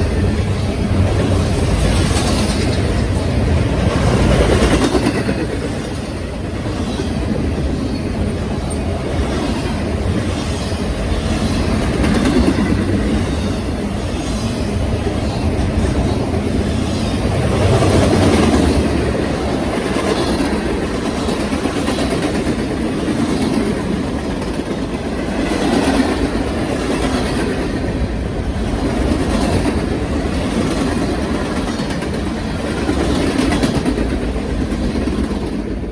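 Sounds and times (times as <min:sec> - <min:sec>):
train wheels clattering over rails: 0:00.0 - 0:35.9.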